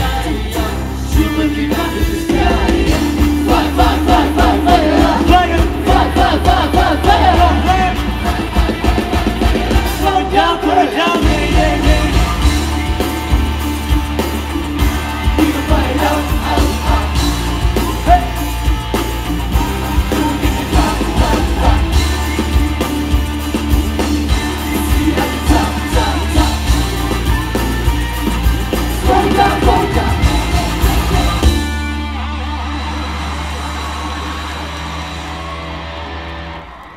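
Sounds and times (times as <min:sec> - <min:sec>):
person singing lead vocals: 0:00.0 - 0:13.3, 0:15.0 - 0:32.0
drums: 0:00.0 - 0:36.9
electric guitars: 0:00.0 - 0:36.9.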